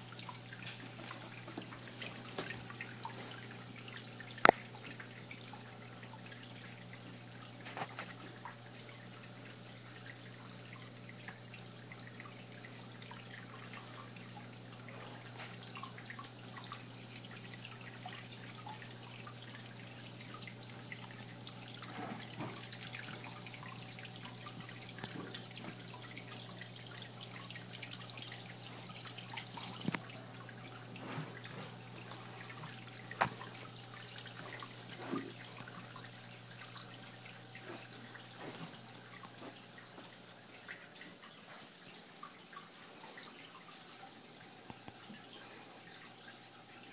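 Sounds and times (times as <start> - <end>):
water drips: 0.0 - 46.9
water trickling: 0.0 - 46.9.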